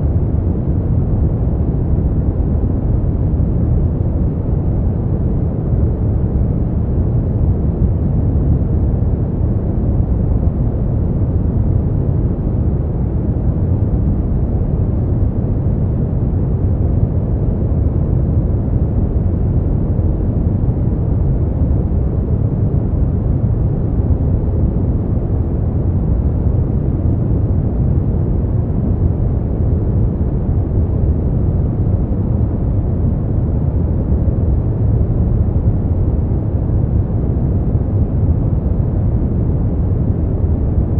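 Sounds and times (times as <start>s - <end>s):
deep white noise rush: 0.0s - 40.9s.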